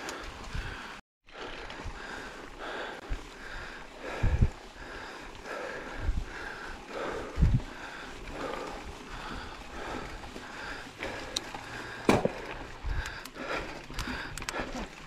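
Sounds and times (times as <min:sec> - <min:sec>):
person breathing hard: 0:00.0 - 0:14.9.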